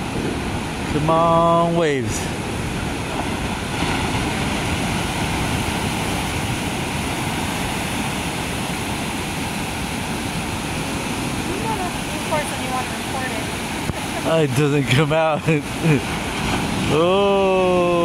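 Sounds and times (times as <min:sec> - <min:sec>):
ocean surf washing onto beach: 0:00.0 - 0:18.0.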